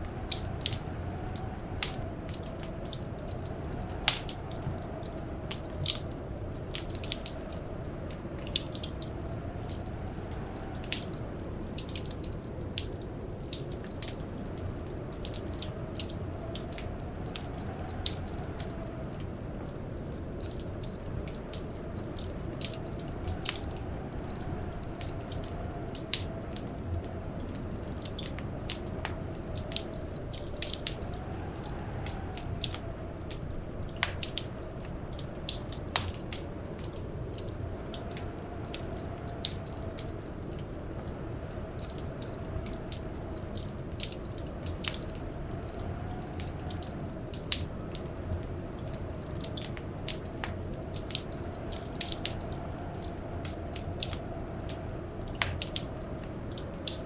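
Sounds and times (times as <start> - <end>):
howling blizzard wind: 0.0 - 57.0
wood fire crackling: 0.0 - 57.0.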